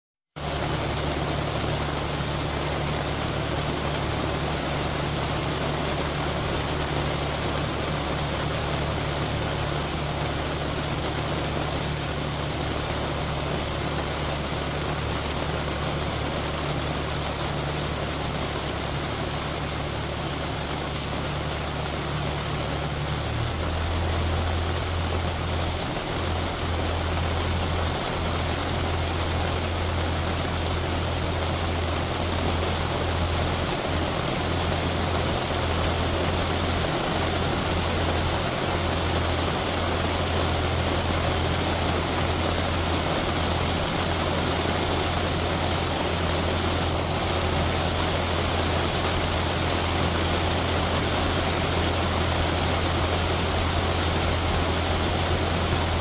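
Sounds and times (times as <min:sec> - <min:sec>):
rain falling on a lake: 0:00.2 - 0:56.0
low steady rumble: 0:00.4 - 0:56.0.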